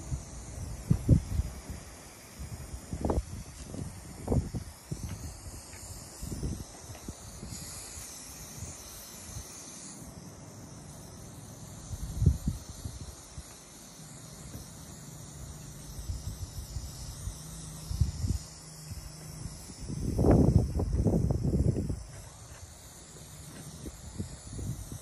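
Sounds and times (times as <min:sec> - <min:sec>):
spray can hissing: 0:00.0 - 0:25.0.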